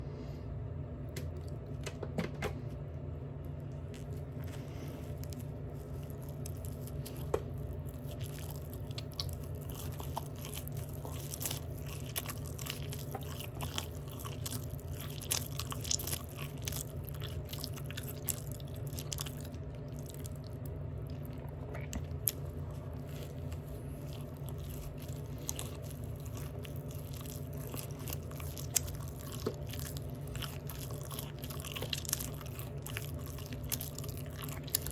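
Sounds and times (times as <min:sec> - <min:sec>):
steady low hum: 0:00.0 - 0:34.9
open-mouth chewing: 0:03.7 - 0:34.9.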